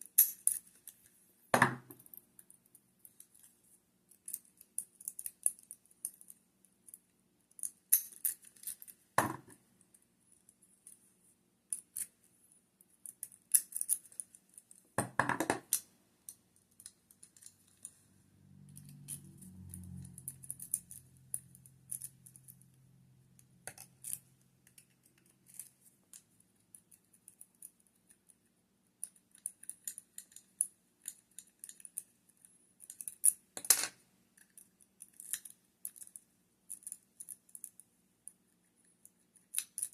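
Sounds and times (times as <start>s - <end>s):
lock picks clicking and scraping: 0.0s - 1.2s, 1.8s - 10.0s, 11.7s - 12.2s, 12.8s - 18.0s, 18.7s - 22.7s, 23.4s - 39.9s.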